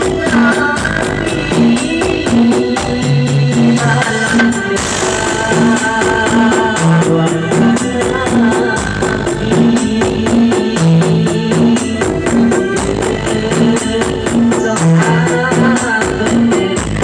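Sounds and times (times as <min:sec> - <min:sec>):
loud music with bass line: 0:00.0 - 0:17.0.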